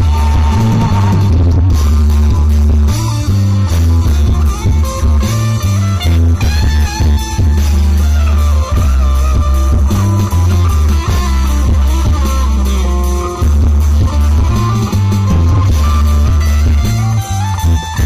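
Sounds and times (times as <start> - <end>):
bass guitar: 0.0 - 18.0
electric guitar: 0.0 - 18.0
keyboard: 0.0 - 18.0.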